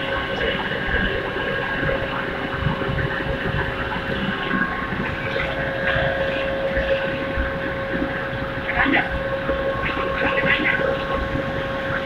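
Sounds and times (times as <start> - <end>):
furnace high hum: 0.0 - 12.0
rumbling industrial drone: 0.0 - 12.0.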